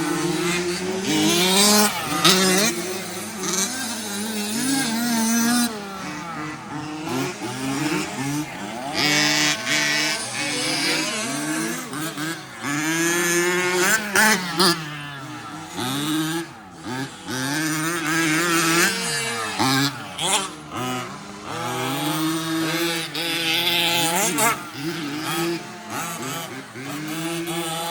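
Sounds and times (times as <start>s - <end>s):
toy truck motors whining: 0.0s - 27.9s.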